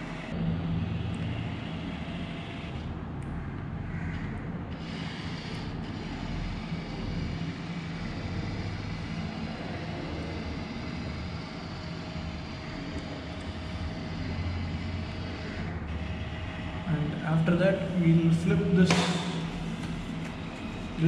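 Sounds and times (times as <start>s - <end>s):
scanner motor humming: 0.0s - 21.0s.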